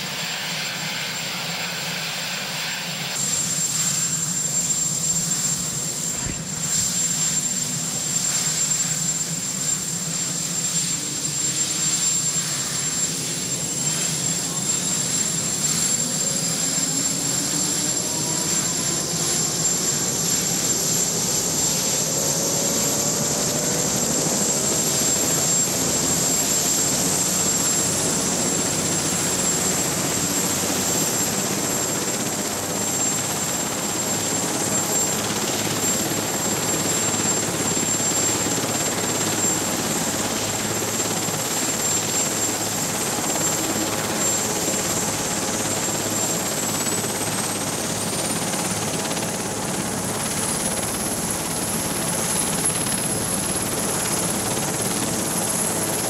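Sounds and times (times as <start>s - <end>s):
helicopter turbine engines whining: 0.0s - 56.0s.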